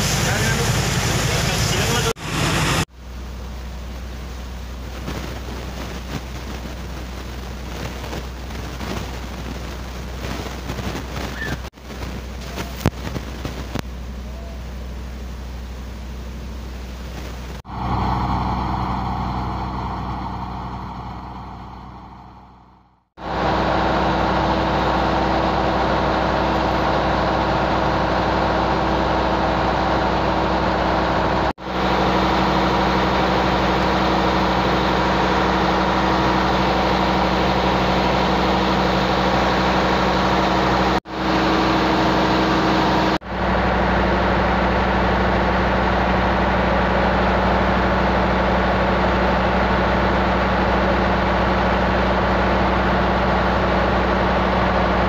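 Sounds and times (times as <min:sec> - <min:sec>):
boat diesel engine drone: 0:00.0 - 0:55.0.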